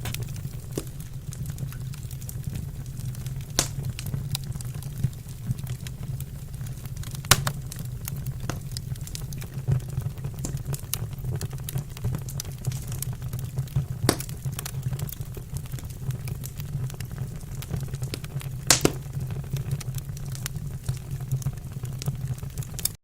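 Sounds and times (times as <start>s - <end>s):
low steady fire rumble: 0.0s - 23.0s
wood fire crackling and popping: 0.0s - 23.0s.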